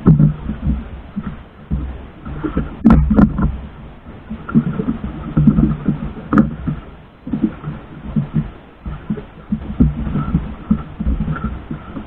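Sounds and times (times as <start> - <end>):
sharp knocks against boat: 0.0 - 3.6, 4.3 - 12.0
wind and water on microphone: 0.0 - 12.0.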